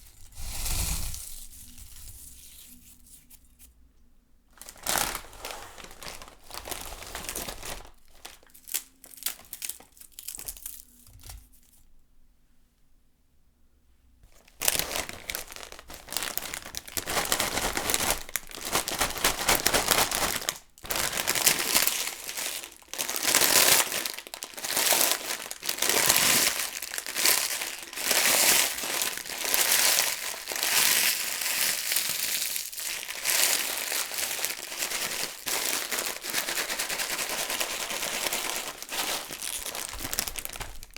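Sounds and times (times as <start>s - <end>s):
potato chips crinkling in a bowl: 4.5s - 11.8s, 14.3s - 40.9s.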